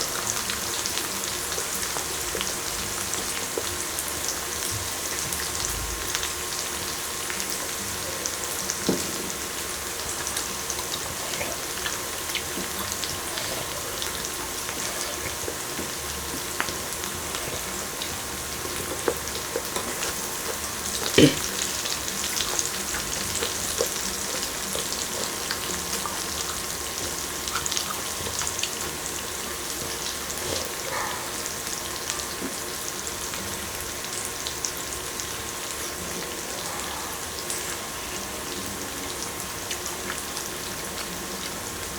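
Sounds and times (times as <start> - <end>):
intestine sizzling on a grill: 0.0 - 41.9.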